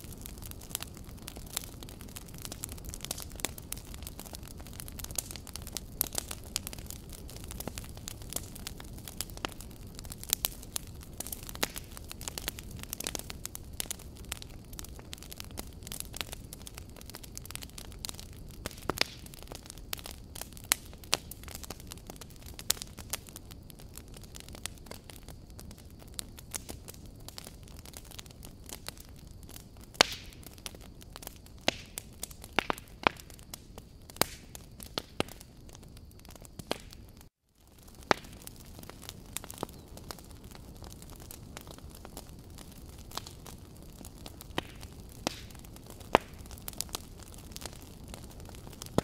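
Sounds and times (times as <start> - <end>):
fire crackling and popping: 0.0 - 49.0.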